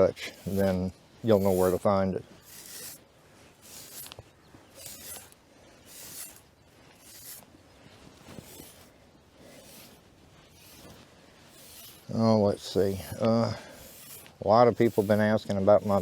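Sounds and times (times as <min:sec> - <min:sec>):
cow chewing: 0:00.0 - 0:16.0.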